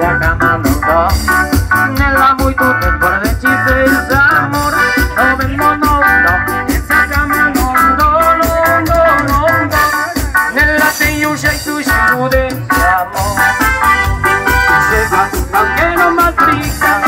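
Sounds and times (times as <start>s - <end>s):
live band dance music: 0.0s - 17.0s.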